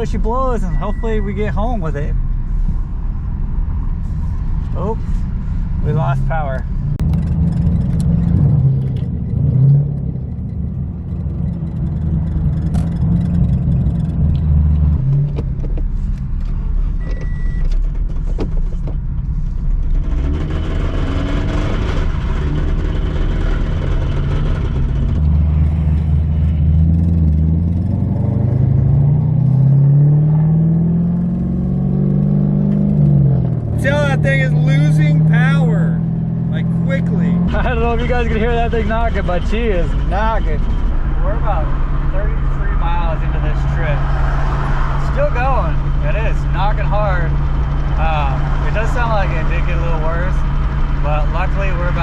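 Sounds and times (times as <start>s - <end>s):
road noise: 0.0s - 52.0s.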